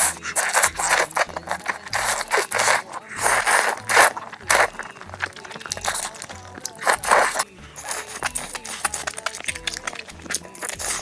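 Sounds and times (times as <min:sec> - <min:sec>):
eating noises: 0:00.0 - 0:11.0.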